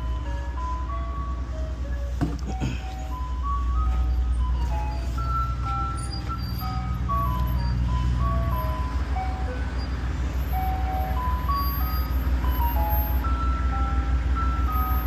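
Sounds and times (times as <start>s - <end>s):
melody over heavy bass: 0.0s - 15.0s.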